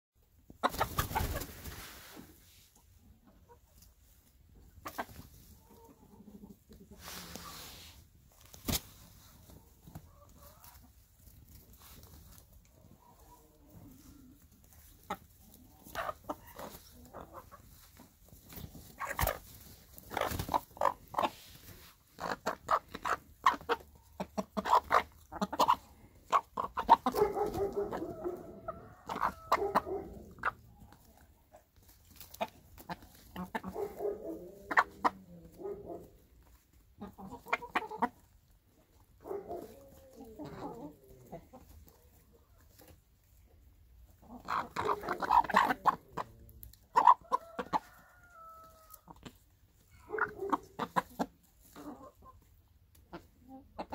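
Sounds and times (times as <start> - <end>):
hens clucking: 0.2 - 53.9
hens pecking: 0.2 - 53.9.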